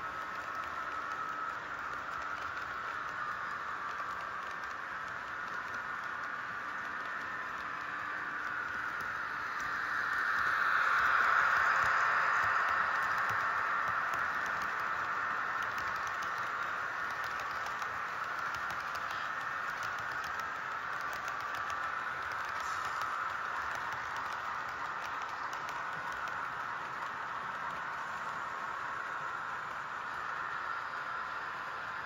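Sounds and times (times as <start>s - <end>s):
model train whine: 0.0s - 32.0s
rattle of train wheels: 0.0s - 32.0s
faint clicks: 0.2s - 31.9s.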